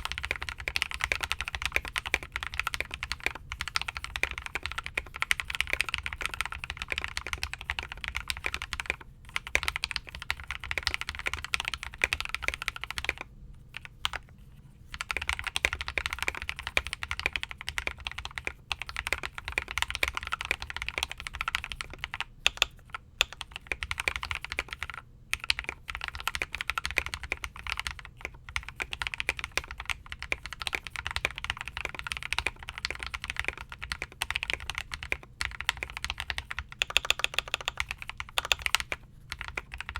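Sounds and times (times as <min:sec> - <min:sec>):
fast typing on mechanical keyboard: 0:00.0 - 0:14.2, 0:14.9 - 0:39.9.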